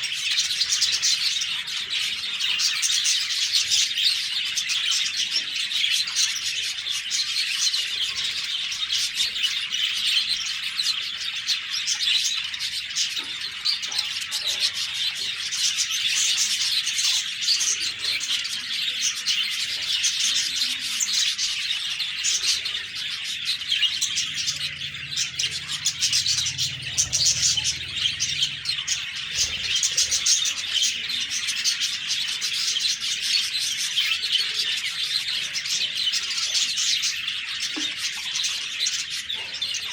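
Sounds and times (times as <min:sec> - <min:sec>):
budgies chirping and warbling: 0:00.0 - 0:39.9.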